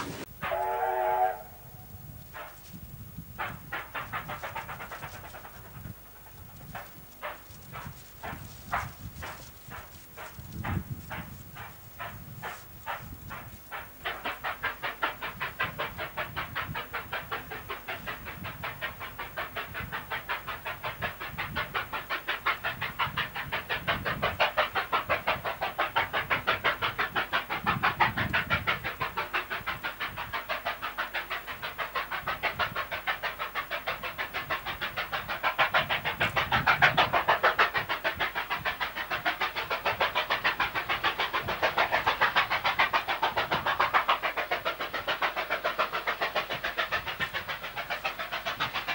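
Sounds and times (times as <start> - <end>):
steam locomotive chuffing: 0.0 - 48.9.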